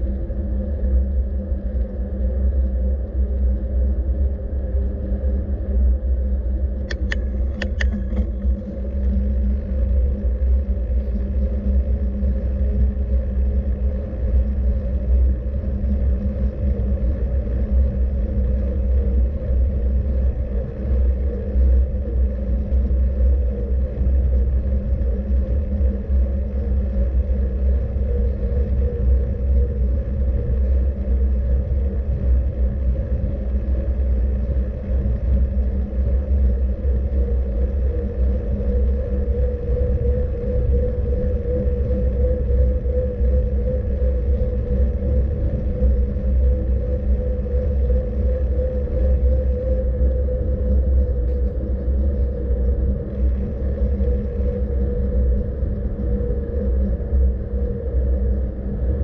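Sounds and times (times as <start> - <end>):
low rumble of moving vehicle: 0.0 - 59.0.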